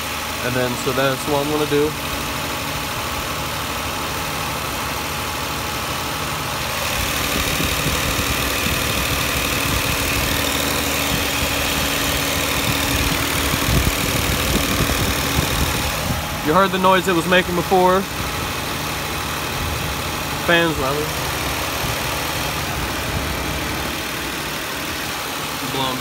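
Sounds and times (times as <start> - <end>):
car engine idling: 0.0 - 26.0
radiator cooling fans rushing: 0.0 - 26.0.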